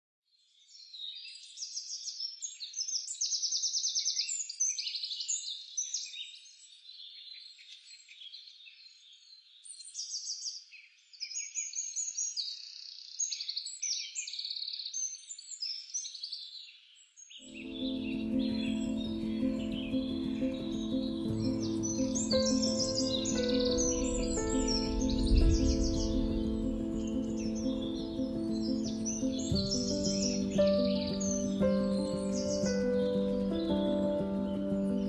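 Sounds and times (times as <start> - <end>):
songbirds chirping and trilling: 0.4 - 35.0.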